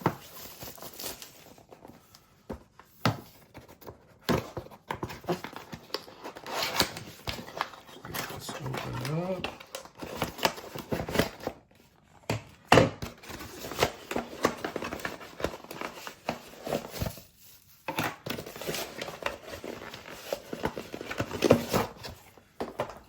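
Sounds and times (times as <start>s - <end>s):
packaging crinkling and tearing: 0.0s - 1.9s, 4.5s - 11.7s, 13.0s - 23.0s.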